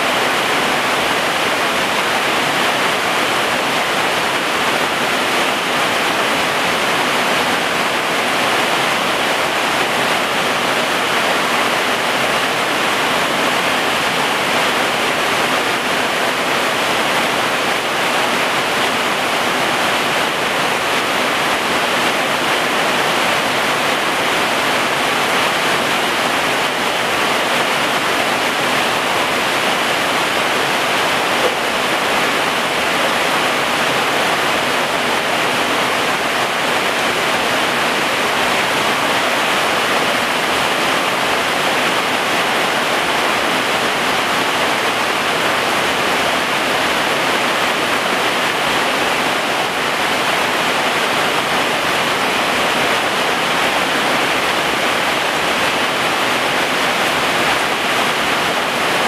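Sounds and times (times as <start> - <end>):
heavy rain on plants: 0.0 - 59.0.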